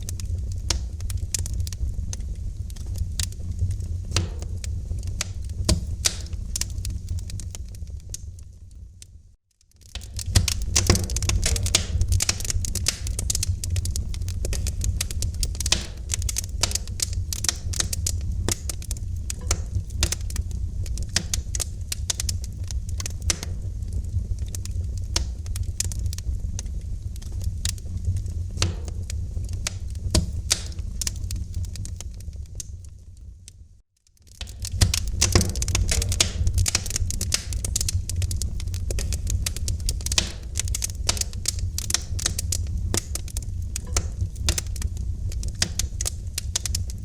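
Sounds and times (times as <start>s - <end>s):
fire popping and snapping: 0.0s - 47.0s
low rumble of flames: 0.0s - 47.0s.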